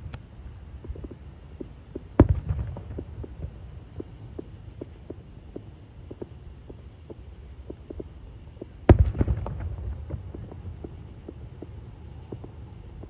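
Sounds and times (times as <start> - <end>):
crackling bangs: 0.8 - 13.0.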